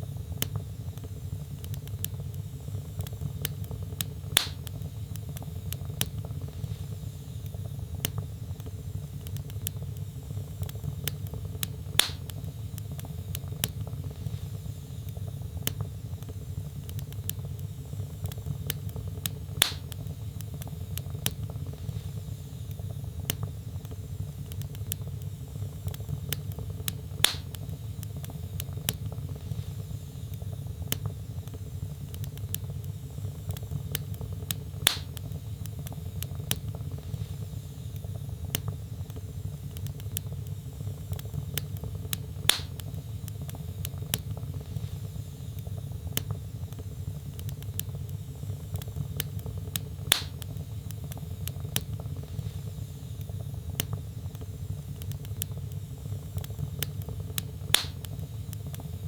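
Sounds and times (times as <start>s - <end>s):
log fire crackling: 0.0s - 59.0s
loud fire pops: 0.3s - 58.9s.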